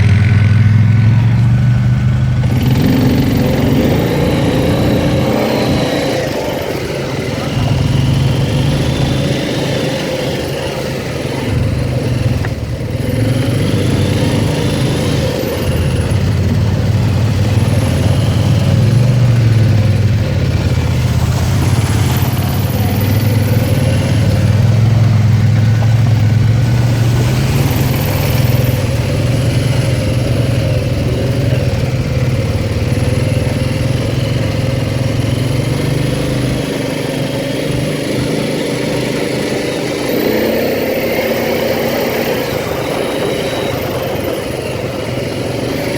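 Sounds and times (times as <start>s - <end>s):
atv engine droning: 0.0s - 45.9s.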